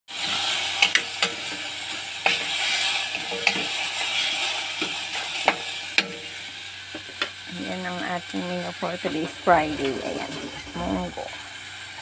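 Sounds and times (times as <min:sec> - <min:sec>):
food sizzling in a pan: 0:00.1 - 0:12.0.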